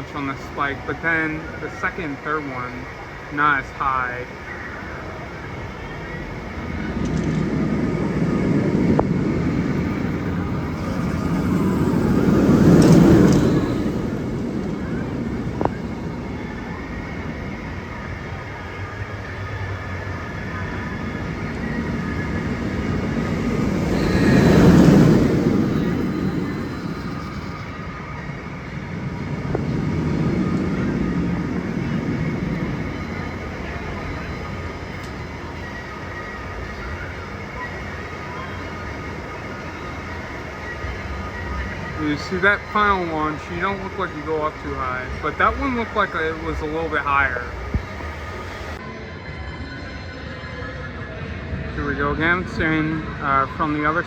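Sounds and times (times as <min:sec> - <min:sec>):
roller coaster rumble: 0:00.0 - 0:48.8.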